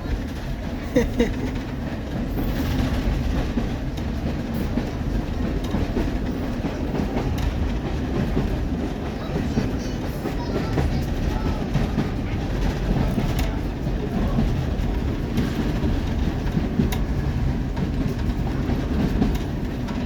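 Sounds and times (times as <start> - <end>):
train carriage rumbling: 0.0 - 20.0
wheels clicking on rails: 0.0 - 20.0.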